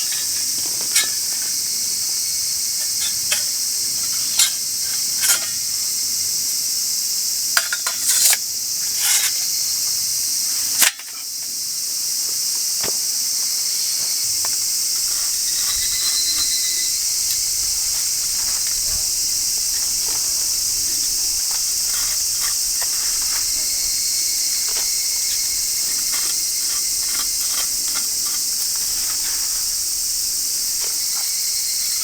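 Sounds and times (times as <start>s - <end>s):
high-pitched insect chorus: 0.0s - 32.0s.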